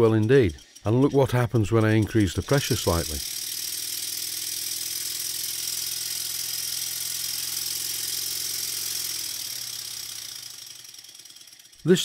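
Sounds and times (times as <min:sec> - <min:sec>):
model steam engine humming: 0:00.0 - 0:12.0.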